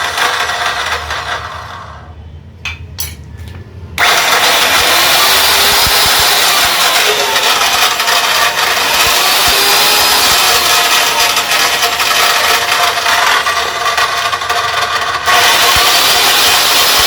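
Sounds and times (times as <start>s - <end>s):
power tool grinding: 0.0s - 2.2s, 4.0s - 17.0s.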